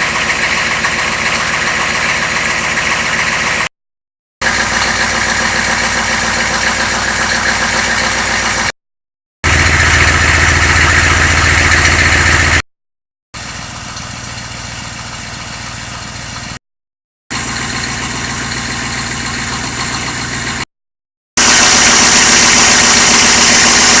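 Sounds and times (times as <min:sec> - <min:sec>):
car engine running: 0:00.0 - 0:03.7, 0:04.4 - 0:08.8, 0:09.4 - 0:12.6, 0:13.4 - 0:16.6, 0:17.3 - 0:20.7, 0:21.4 - 0:24.0.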